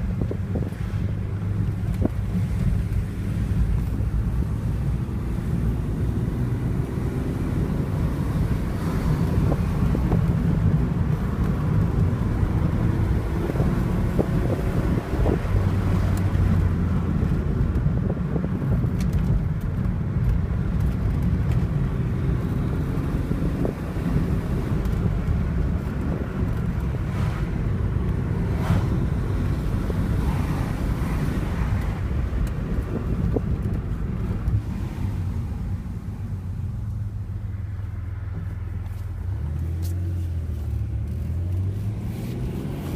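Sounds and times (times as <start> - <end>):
car engine rumbling: 0.0 - 42.9.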